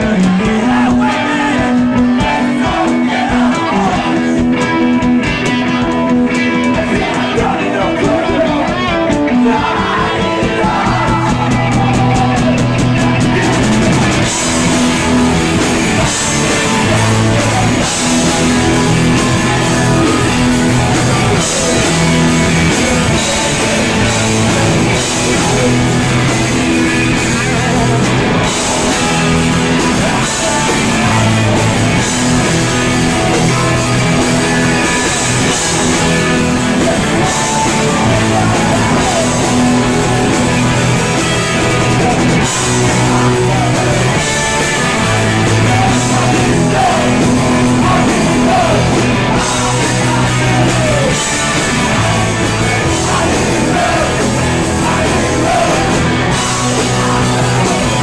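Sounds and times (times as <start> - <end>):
distorted electric guitars: 0.0 - 58.0
drum kit with cymbals: 0.0 - 58.0
shouted-sung lead vocal: 0.0 - 58.0.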